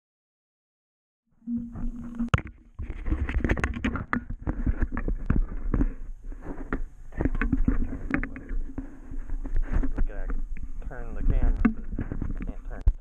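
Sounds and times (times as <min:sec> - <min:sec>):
camera knocking and rubbing: 0:01.5 - 0:13.0.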